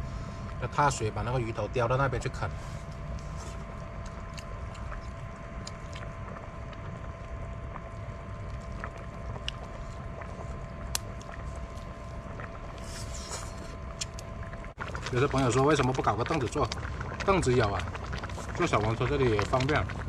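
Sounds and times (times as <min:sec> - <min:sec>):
faint steady hum: 0:00.0 - 0:20.0
low rumble of wind: 0:00.0 - 0:20.0
small crackles and clicks: 0:00.4 - 0:20.0.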